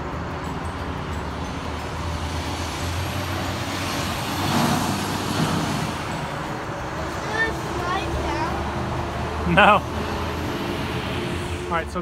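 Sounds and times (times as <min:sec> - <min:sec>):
motor vehicle hum: 0:00.0 - 0:12.0.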